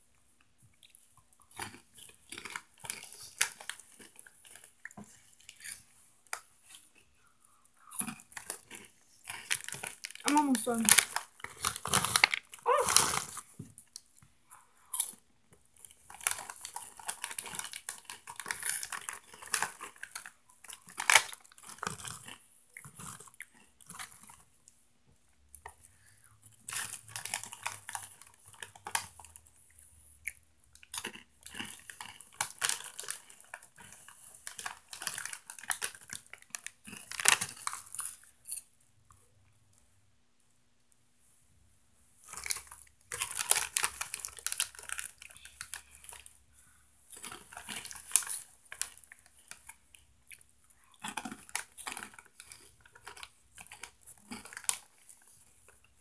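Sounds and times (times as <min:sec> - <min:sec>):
crunchy snack chewing: 0:00.8 - 0:07.1, 0:07.8 - 0:13.6, 0:15.8 - 0:24.4, 0:26.7 - 0:38.7, 0:42.2 - 0:46.3, 0:47.1 - 0:55.8
snack bag crinkling: 0:01.5 - 0:07.1, 0:07.9 - 0:14.2, 0:15.8 - 0:24.4, 0:26.7 - 0:29.9, 0:30.7 - 0:38.7, 0:42.2 - 0:46.5, 0:47.1 - 0:56.0.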